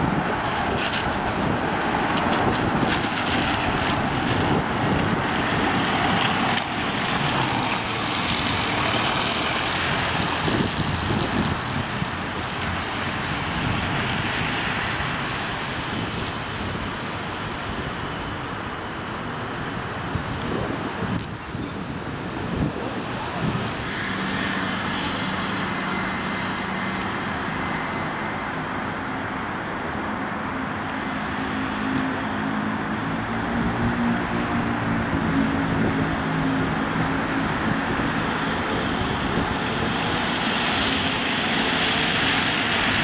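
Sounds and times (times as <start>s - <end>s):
wind buffeting microphone: 0.0s - 30.6s, 32.9s - 43.0s.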